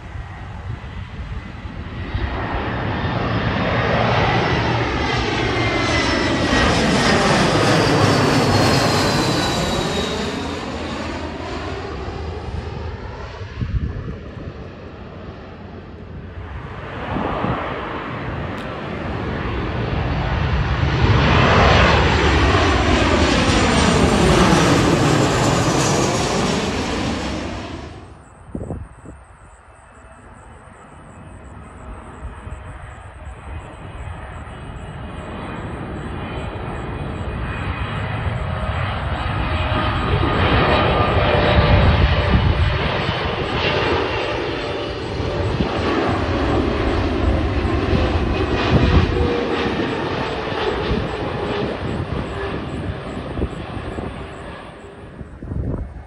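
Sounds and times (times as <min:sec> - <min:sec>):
high engine whine: 0:00.0 - 0:56.0
jet airliner roar overhead: 0:00.0 - 0:56.0.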